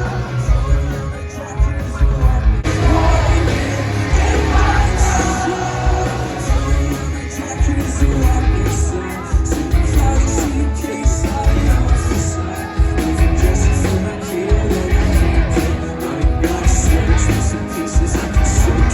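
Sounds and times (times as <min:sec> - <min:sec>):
heavy drums: 0:00.0 - 0:18.9
live rock band playing: 0:00.0 - 0:18.9
person singing: 0:00.0 - 0:18.9.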